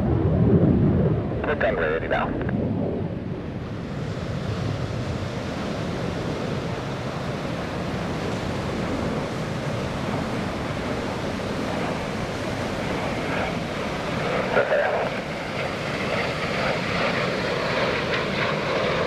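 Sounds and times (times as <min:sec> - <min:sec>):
jet roar overhead: 0:00.0 - 0:19.0.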